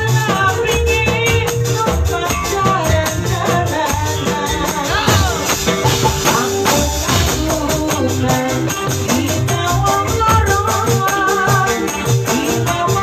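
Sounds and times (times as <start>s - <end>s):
bass beat: 0.0s - 13.0s.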